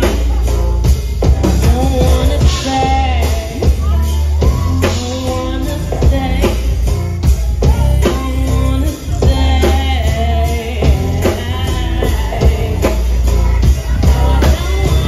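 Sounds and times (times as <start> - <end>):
bass: 0.0 - 15.0
drum kit: 0.0 - 15.0
electric guitar: 0.0 - 15.0
live band playing: 0.0 - 15.0
woman singing: 0.0 - 15.0.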